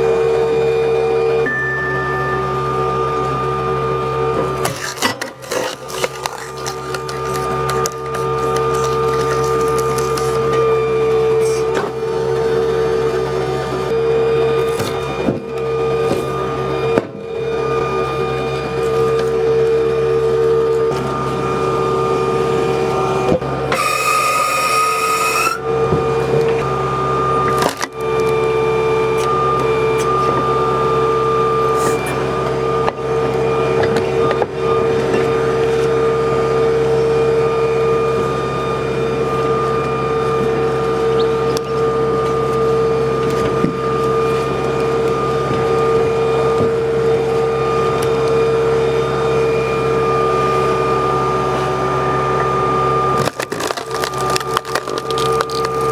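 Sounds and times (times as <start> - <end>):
hydraulic whine: 0.0 - 55.9.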